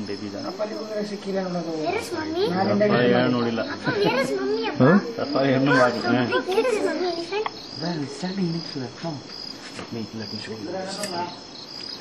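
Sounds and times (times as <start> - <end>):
murmured voices: 0.0 - 11.5
crickets trilling: 0.0 - 12.0.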